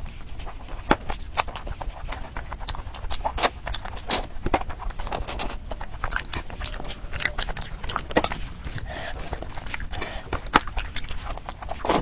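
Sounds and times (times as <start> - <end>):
crunching and chewing food: 0.0 - 12.0.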